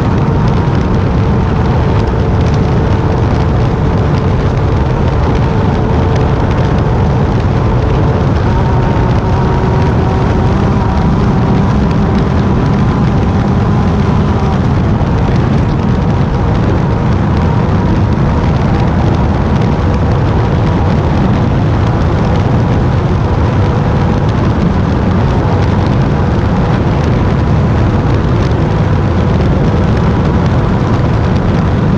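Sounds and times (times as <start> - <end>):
loud low rumble: 0.0 - 31.9
race car engine: 0.0 - 31.9.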